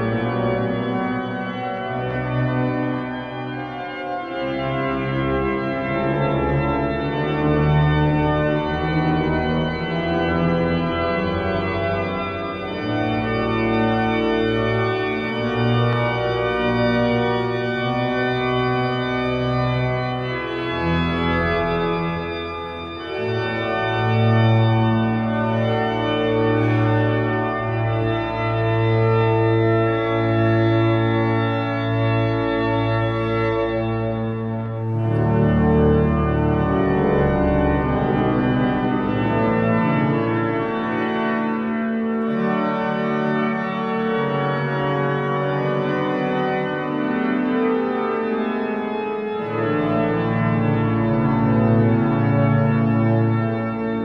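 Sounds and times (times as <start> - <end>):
church pipe organ chords: 0.0 - 54.0.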